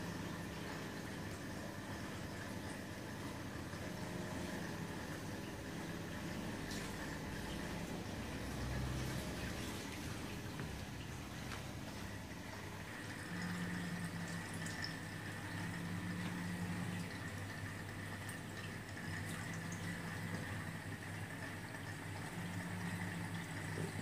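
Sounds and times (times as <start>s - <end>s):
aquarium equipment humming: 0.0s - 24.0s
water trickling and dripping: 0.0s - 24.0s.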